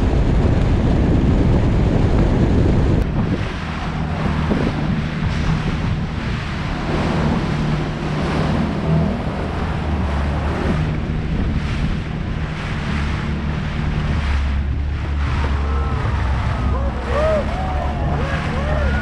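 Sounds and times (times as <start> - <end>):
jet ski engine humming: 0.0 - 19.0
water rushing: 0.0 - 19.0
wind buffeting microphone: 0.0 - 19.0.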